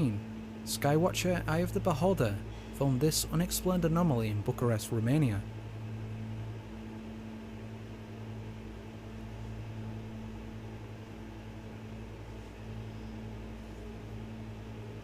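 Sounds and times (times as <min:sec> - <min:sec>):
low hum with faint hiss: 0:00.0 - 0:15.0.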